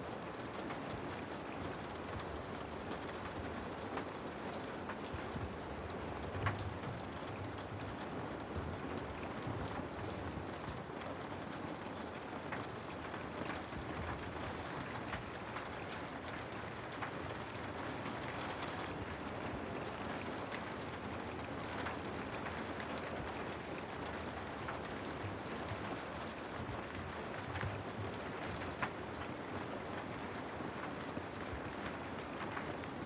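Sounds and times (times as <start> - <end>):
steady rain hiss: 0.0 - 33.0
raindrops ticking: 0.2 - 33.0.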